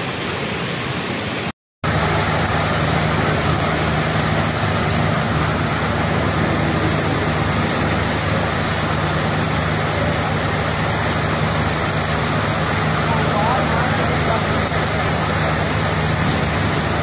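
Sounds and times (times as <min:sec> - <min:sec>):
heavy rain on pavement: 0:00.0 - 0:17.0.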